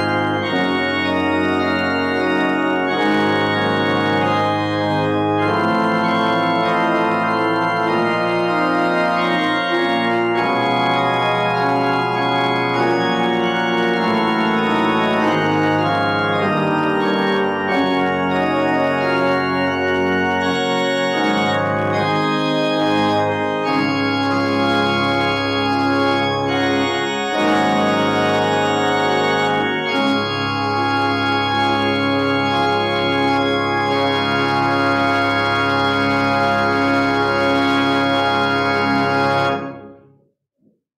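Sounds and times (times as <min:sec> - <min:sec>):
church organ chords: 0:00.0 - 0:40.1.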